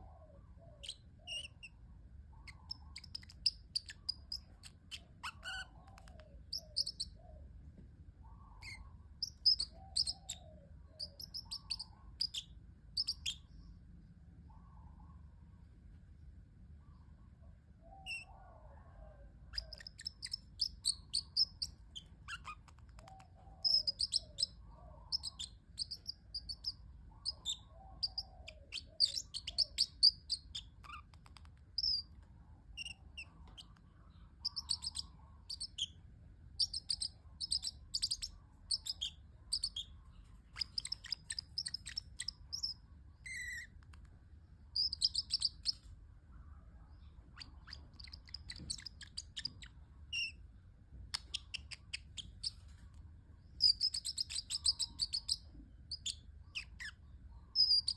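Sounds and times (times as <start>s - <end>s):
parrotlet chirping: 0.6s - 7.4s, 8.4s - 13.8s, 17.9s - 18.8s, 19.5s - 46.0s, 46.9s - 57.9s.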